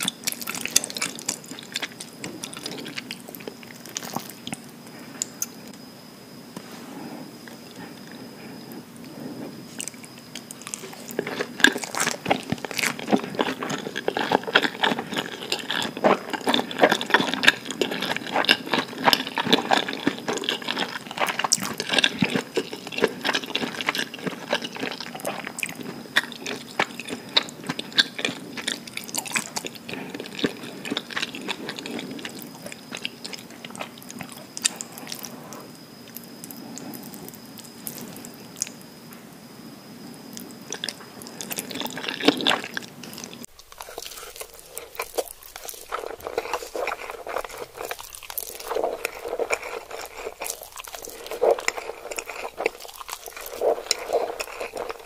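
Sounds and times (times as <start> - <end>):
person chewing food: 0.0 - 5.7, 6.6 - 39.1, 40.0 - 55.0.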